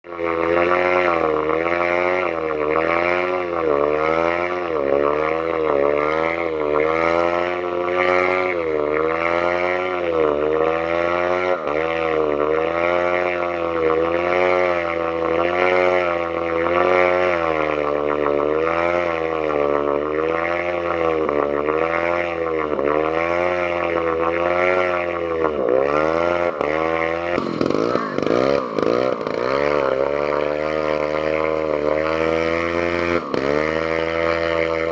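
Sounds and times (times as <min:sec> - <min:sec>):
engine running unevenly: 0:00.1 - 0:34.9.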